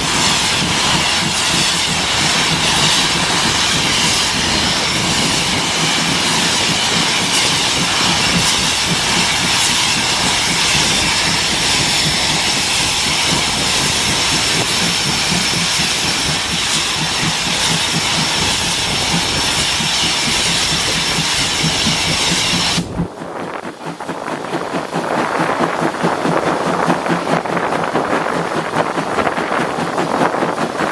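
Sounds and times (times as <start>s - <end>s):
steam locomotive hissing roar: 0.0s - 30.9s.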